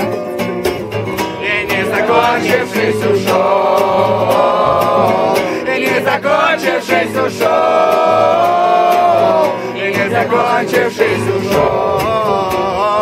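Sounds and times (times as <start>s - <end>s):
group of people singing: 1.2s - 13.0s.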